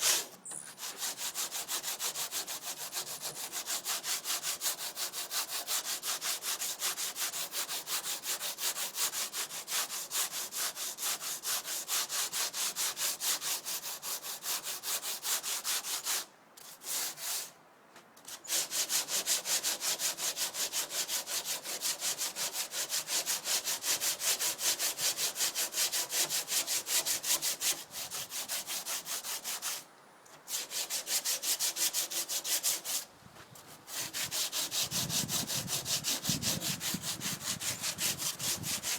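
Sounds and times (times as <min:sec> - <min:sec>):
sandpaper scraping fibreglass: 0:00.0 - 0:17.5, 0:18.4 - 0:29.8, 0:30.5 - 0:38.9.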